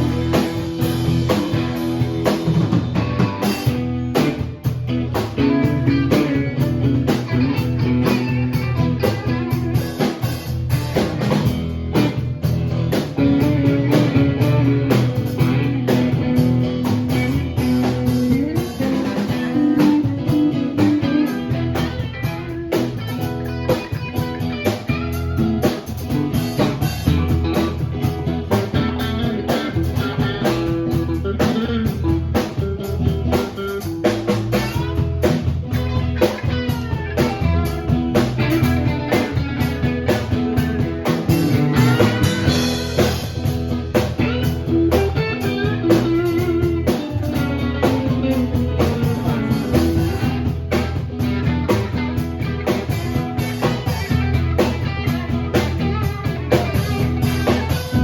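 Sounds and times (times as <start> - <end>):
blues-rock guitar: 0.0 - 58.0
drum-kit beat: 0.0 - 58.0.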